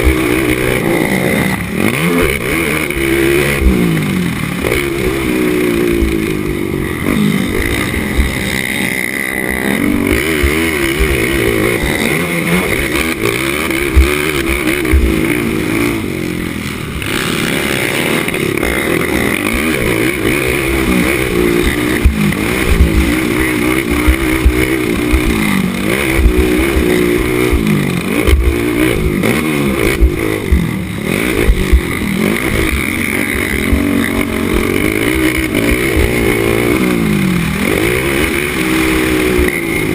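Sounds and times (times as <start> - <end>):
racing atv engine: 0.0 - 39.9.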